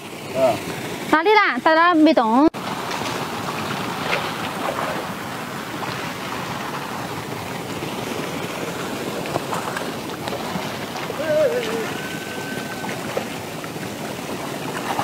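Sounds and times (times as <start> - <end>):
pond water sloshing and splashing: 0.0 - 15.0.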